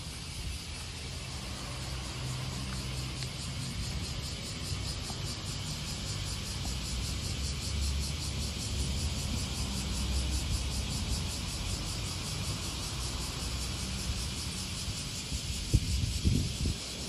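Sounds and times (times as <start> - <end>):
distant traffic rumble: 0.0 - 17.0
insects chirping: 0.0 - 17.0.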